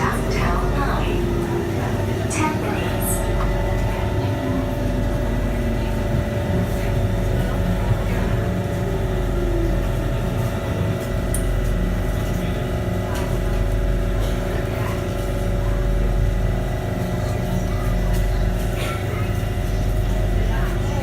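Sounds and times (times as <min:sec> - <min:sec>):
train rumble with motor whine: 0:00.0 - 0:21.0.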